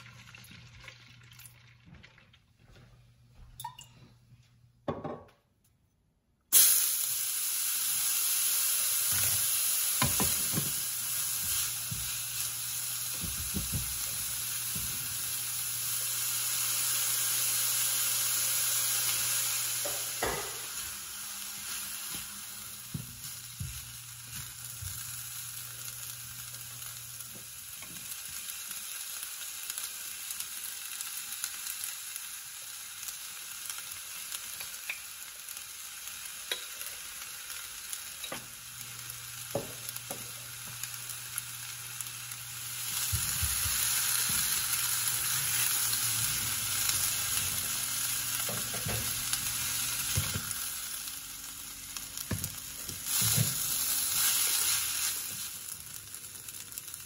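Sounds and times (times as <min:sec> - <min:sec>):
food sizzling in a frying pan: 0:06.5 - 0:57.0.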